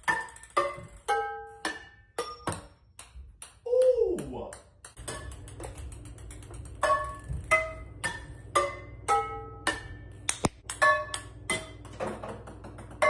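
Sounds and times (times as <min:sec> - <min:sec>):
ping pong ball striking metal bottle: 0:00.1 - 0:03.6, 0:04.6 - 0:05.5, 0:06.8 - 0:13.0.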